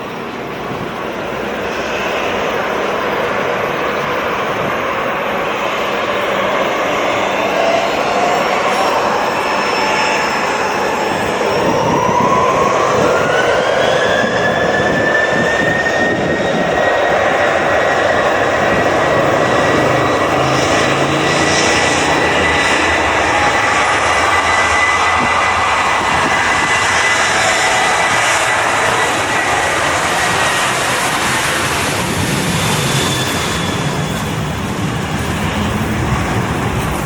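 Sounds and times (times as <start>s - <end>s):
jet engines spooling up: 0.0s - 37.0s.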